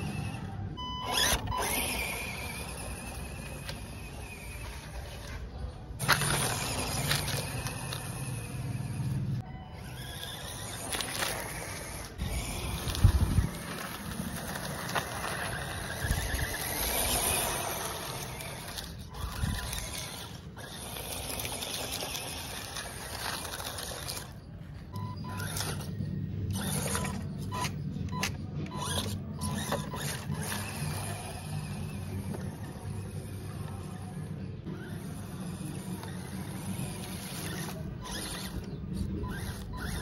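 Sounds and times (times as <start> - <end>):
toy car motor whirring: 0.0 - 40.0
tyres on dirt and dry leaves: 0.0 - 40.0.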